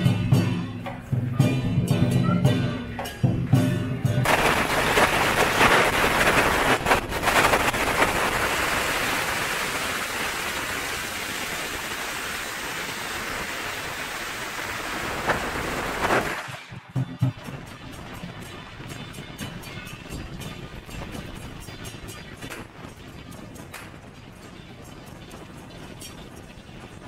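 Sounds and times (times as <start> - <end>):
firecrackers crackling: 4.2 - 27.0.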